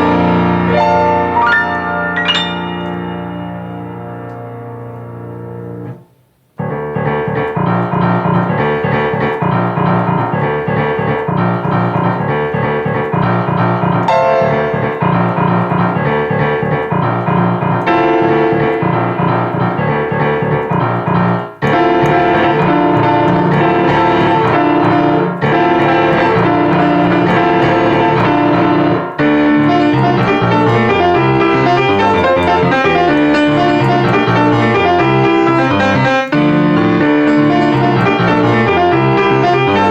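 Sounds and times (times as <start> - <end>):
fast piano piece: 0.0 - 39.9.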